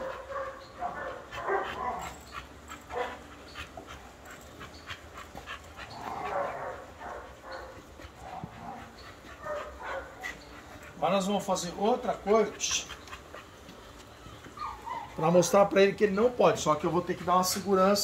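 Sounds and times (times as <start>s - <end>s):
dogs panting: 0.0s - 18.0s.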